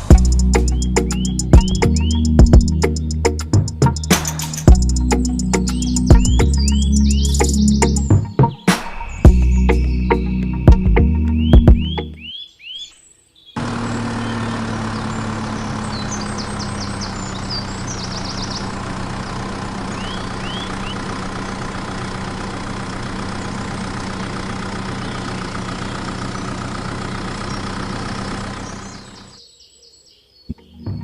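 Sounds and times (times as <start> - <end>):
faint bird chirps: 0.2 - 21.6, 23.2 - 31.0.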